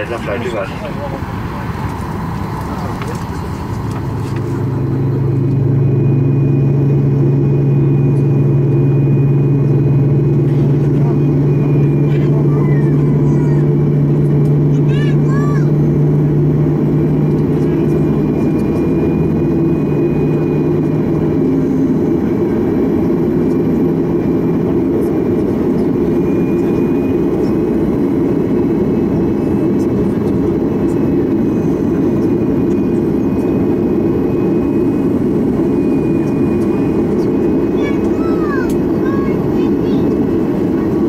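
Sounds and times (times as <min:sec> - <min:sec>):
airliner cabin engine rush: 0:00.0 - 0:41.0.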